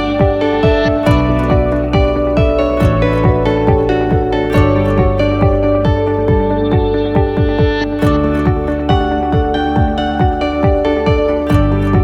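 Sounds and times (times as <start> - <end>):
electronic music: 0.0 - 12.0
kick-drum beat: 0.0 - 12.0
sustained synth chords: 0.0 - 12.0.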